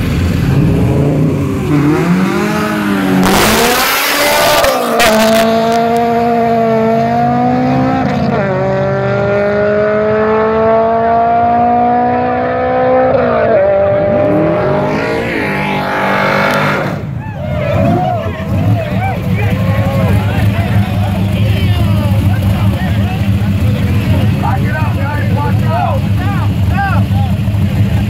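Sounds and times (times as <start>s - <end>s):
engine accelerating through gears: 0.0s - 25.8s
car engines revving: 0.0s - 28.0s.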